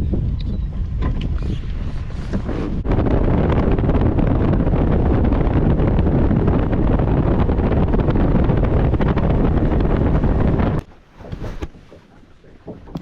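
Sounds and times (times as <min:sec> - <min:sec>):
wind rushing over microphone: 0:00.0 - 0:11.9.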